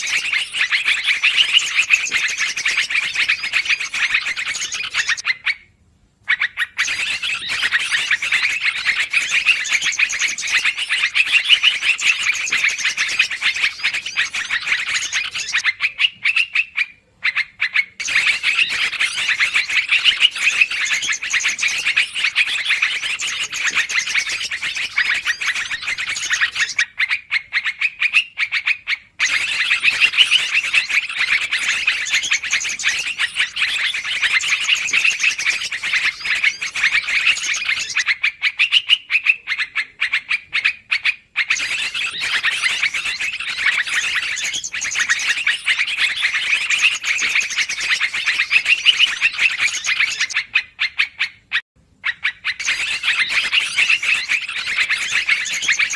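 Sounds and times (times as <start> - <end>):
bulbuls chattering calls: 0.0 - 5.6, 6.3 - 51.4, 52.0 - 55.9.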